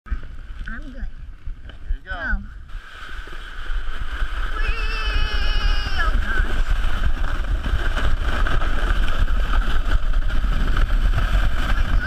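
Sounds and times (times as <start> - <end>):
plastic sled scraping over snow: 0.1 - 12.0.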